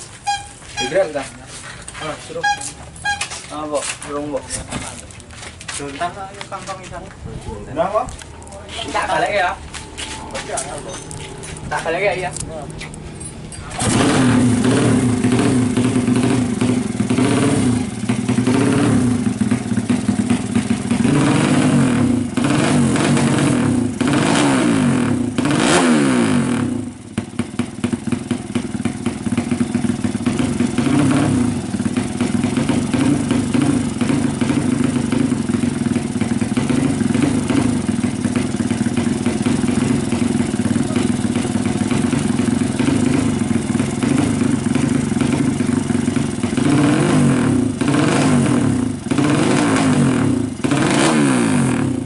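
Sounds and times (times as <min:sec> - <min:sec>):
motorcycle engine revving and idling: 0:00.0 - 0:52.0.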